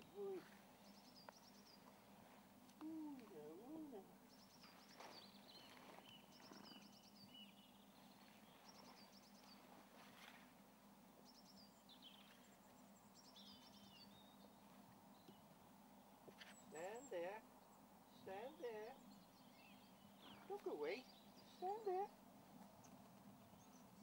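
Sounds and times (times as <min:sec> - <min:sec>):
low steady hum: 0:00.0 - 0:24.0
small birds trilling and chirping: 0:00.0 - 0:24.0.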